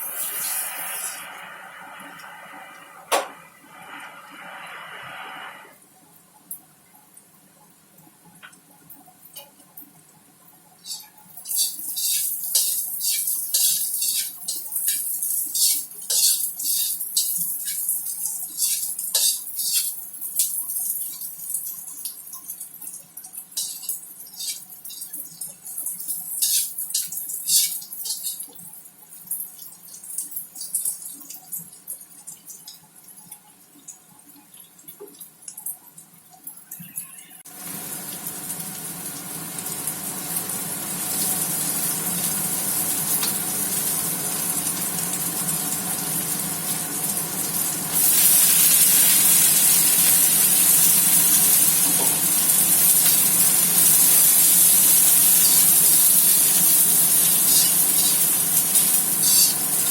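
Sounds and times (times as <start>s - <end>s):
food sizzling in hot oil: 0.0s - 5.1s, 10.8s - 33.3s, 36.8s - 59.9s.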